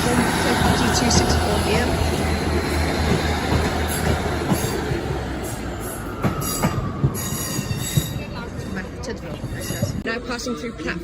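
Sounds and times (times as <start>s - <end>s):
train engine throb: 0.0s - 10.0s.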